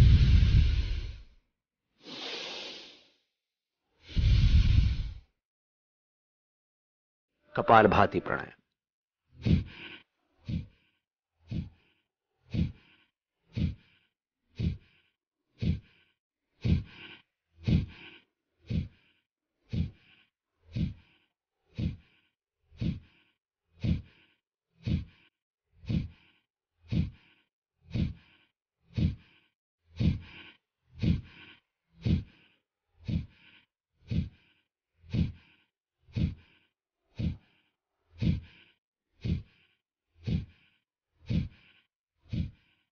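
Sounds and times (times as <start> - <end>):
forceful exhalations through nose: 0.0 - 1.4, 2.0 - 3.2, 4.0 - 5.3, 9.4 - 22.2, 22.8 - 42.8.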